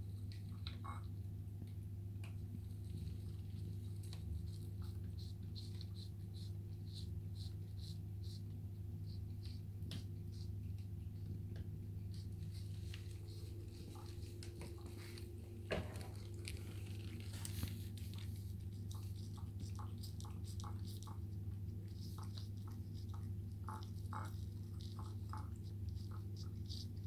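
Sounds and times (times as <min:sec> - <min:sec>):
cat chewing and crunching: 0:00.0 - 0:27.0
steady low hum: 0:00.0 - 0:27.0.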